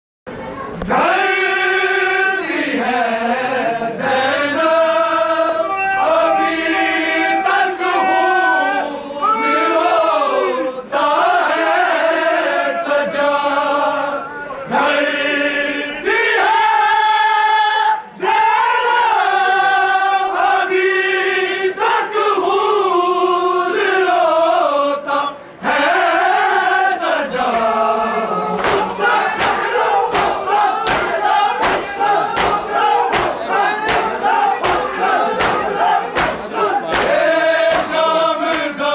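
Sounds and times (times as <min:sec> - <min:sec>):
men chanting a lament: 0:00.9 - 0:38.9.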